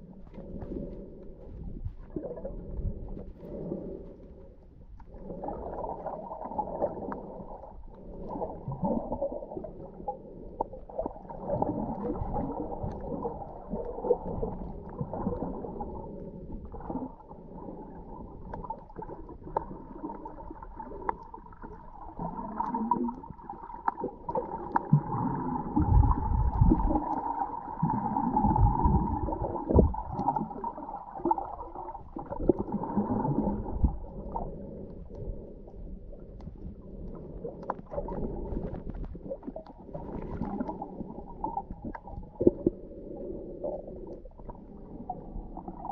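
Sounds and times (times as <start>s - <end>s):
underwater churning and gurgling: 0.0s - 45.9s.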